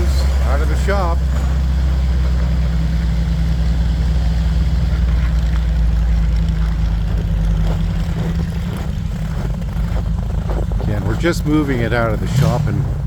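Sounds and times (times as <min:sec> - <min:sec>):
snow bus engine droning: 0:00.0 - 0:13.0.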